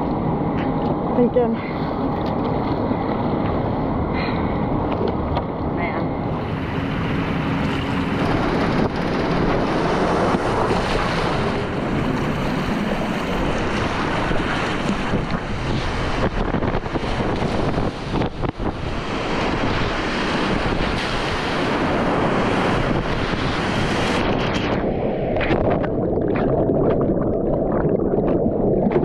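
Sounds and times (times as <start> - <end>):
wind noise on microphone: 2.0 - 29.0.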